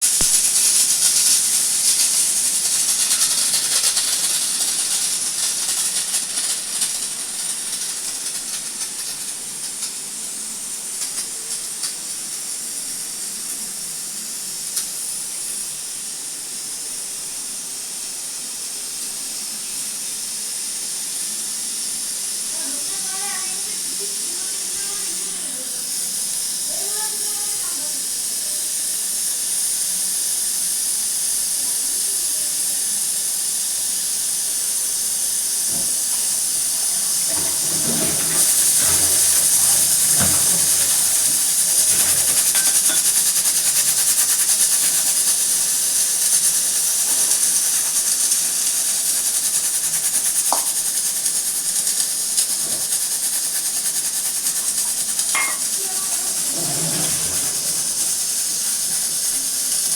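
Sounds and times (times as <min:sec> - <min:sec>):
steam hissing from pressure cooker: 0:00.0 - 0:59.9.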